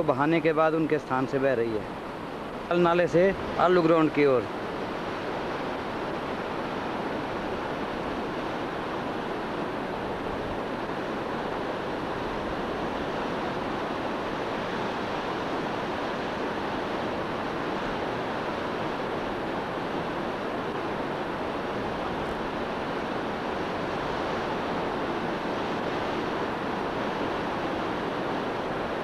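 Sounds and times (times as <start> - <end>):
rushing river water: 0.0 - 29.0.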